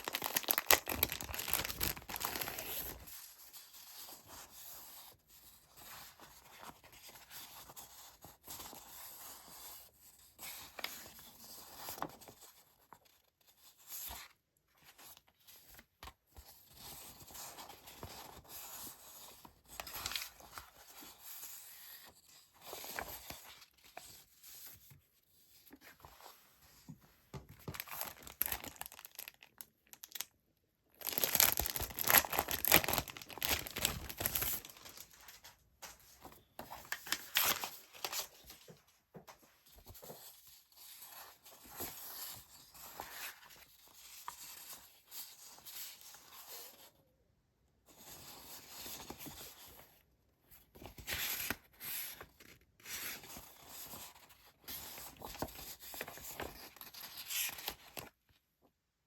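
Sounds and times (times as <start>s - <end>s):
paper rustling and crinkling: 0.0s - 9.5s, 10.4s - 30.3s, 31.0s - 46.8s, 50.7s - 58.2s.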